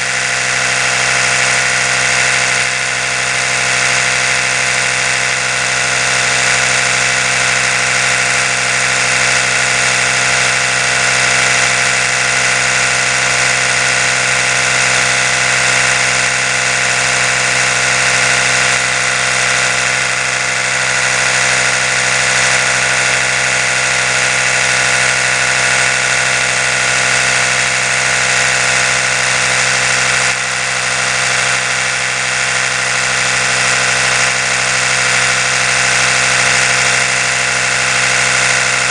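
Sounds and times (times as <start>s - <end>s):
electric toothbrush buzzing: 0.0s - 38.9s.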